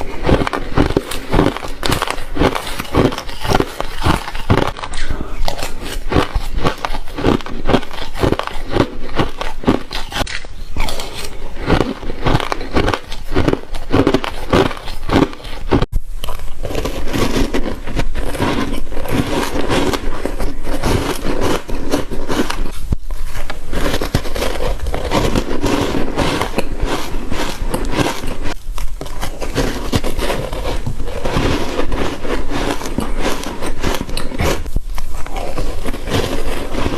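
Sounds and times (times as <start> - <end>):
ice being chewed: 0.0 - 36.9.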